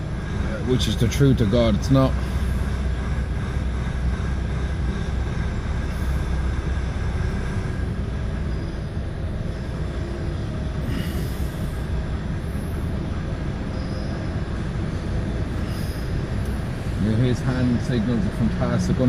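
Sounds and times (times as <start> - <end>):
diesel engine running low: 0.0 - 19.0.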